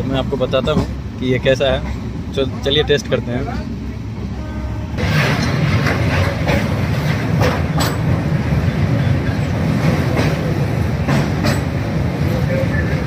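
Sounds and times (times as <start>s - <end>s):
wheels clacking over rail joints: 0.0s - 2.6s, 5.0s - 13.0s
train rumble: 0.0s - 13.0s.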